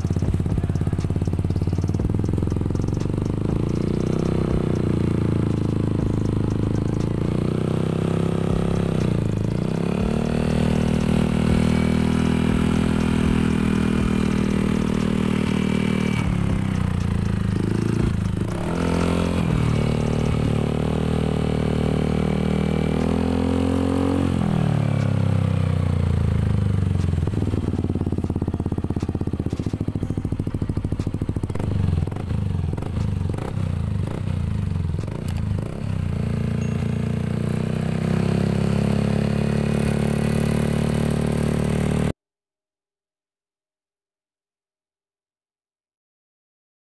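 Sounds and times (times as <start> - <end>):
scooter engine revving and idling: 0.0 - 42.2.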